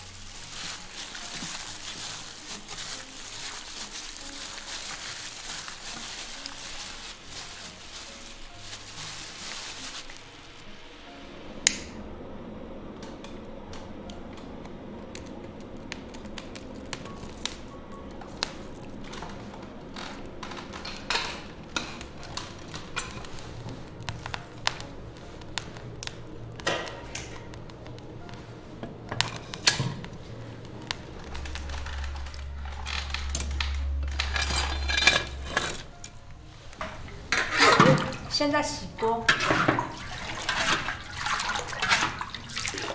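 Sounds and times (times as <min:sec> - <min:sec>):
kindling crackling: 0:00.0 - 0:42.9.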